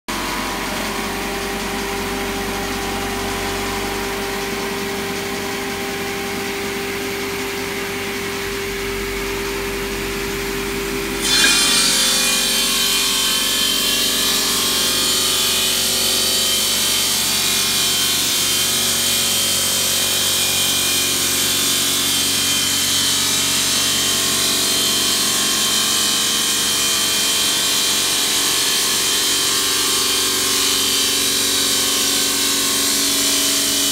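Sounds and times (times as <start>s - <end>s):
saw cutting stone: 0.1s - 33.9s.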